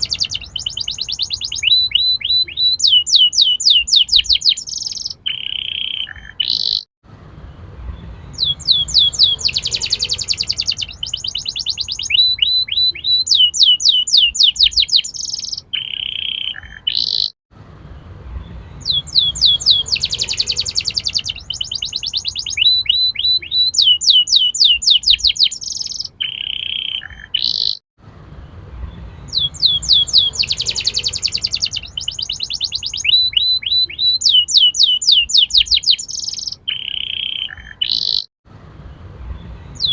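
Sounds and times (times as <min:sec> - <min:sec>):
canary singing trills: 0:00.0 - 0:06.9, 0:07.9 - 0:17.4, 0:18.4 - 0:27.8, 0:28.9 - 0:38.3, 0:39.4 - 0:39.9.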